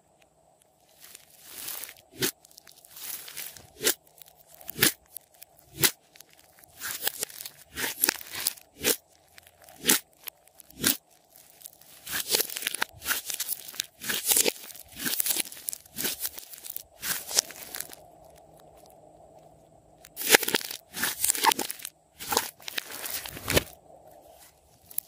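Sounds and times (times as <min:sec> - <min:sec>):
slime crackling and squelching: 0:00.6 - 0:25.0.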